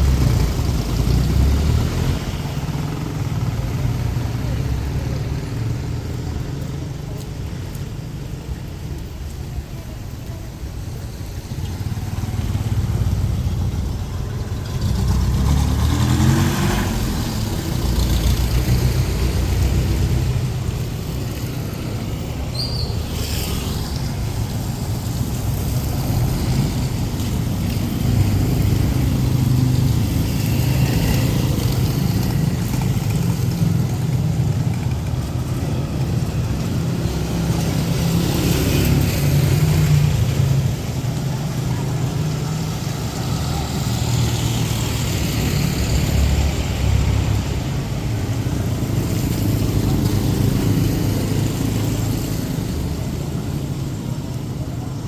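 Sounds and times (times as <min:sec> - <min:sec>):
vehicle engines rumbling: 0:00.0 - 0:55.0
vehicles passing: 0:00.0 - 0:55.0.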